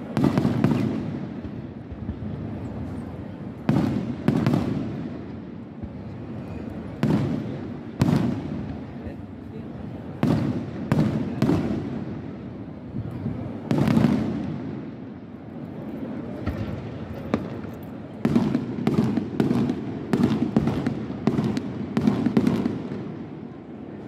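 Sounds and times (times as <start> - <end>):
firework booms: 0.0 - 3.0, 3.6 - 9.2, 10.1 - 15.0, 16.4 - 23.4
rapid volley of firework bangs: 0.0 - 15.4, 16.4 - 23.9
firework crack: 0.0 - 24.0.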